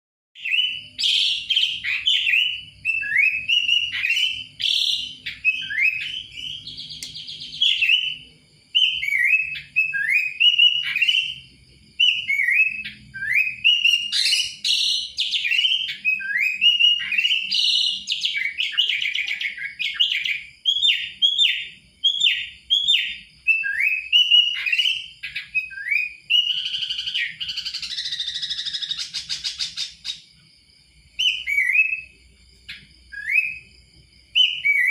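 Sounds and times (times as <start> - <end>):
harsh buzzy bird chatter: 0.4 - 11.4, 12.0 - 30.3
bird whistled song: 0.4 - 30.5, 31.1 - 34.9.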